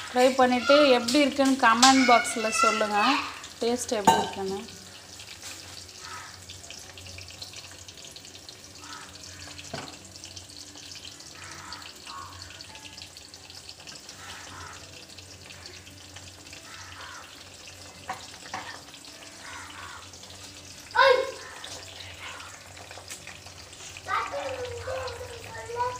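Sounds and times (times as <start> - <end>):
oil sizzling while deep-frying: 0.0 - 25.9.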